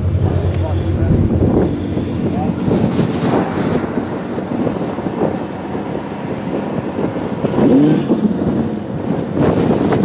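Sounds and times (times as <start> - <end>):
low rumble of outdoor noise: 0.0 - 9.1
car engine revving: 0.0 - 10.0.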